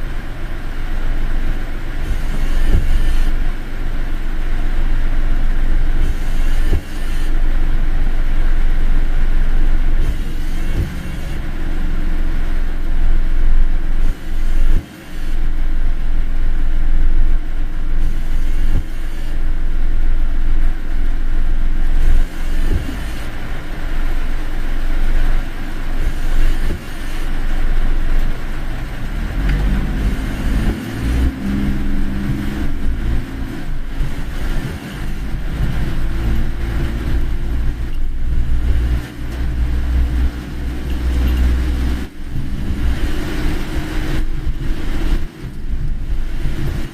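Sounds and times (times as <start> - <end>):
car engine and tyres rumbling: 0.0 - 46.9.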